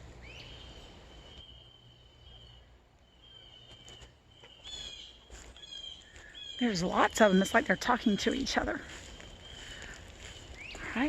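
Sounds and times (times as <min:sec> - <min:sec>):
faint high bird calls: 0:00.0 - 0:11.0.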